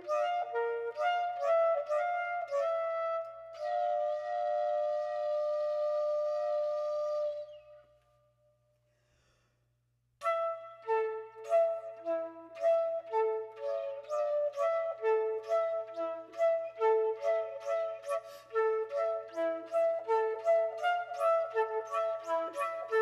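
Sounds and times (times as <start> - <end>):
solo flute playing: 0.0 - 8.1, 10.2 - 23.0.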